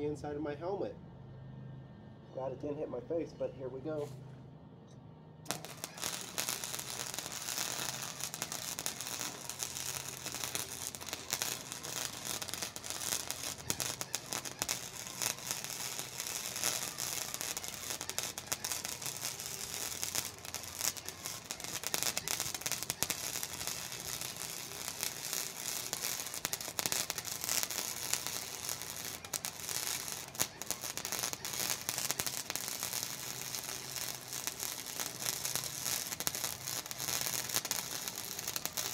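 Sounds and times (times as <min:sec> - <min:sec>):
faint low welder hum: 0:01.3 - 0:38.9
welder arc crackling: 0:05.5 - 0:38.9.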